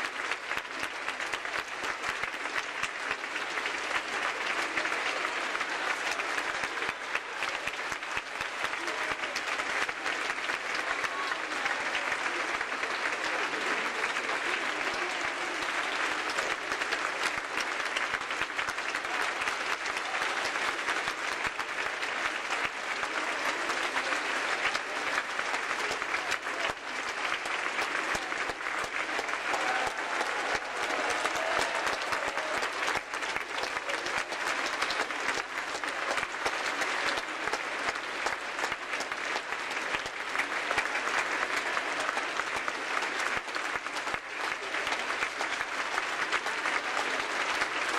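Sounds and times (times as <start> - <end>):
audience applauding: 0.0 - 47.9.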